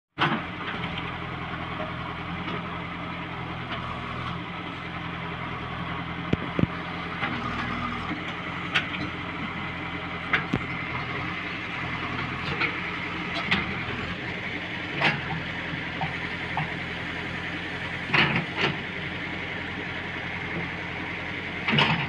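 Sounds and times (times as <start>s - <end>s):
diesel engine running: 0.2s - 22.0s.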